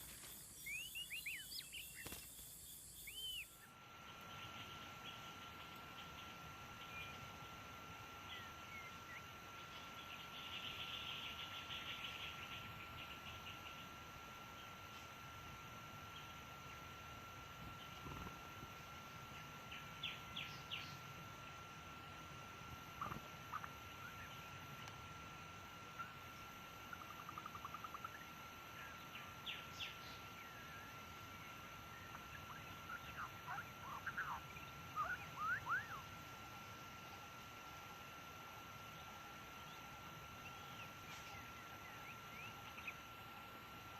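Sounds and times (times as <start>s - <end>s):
bird singing: 0.0s - 14.8s, 15.6s - 22.1s, 25.4s - 37.6s, 38.6s - 43.3s
faint high whine: 0.0s - 43.9s.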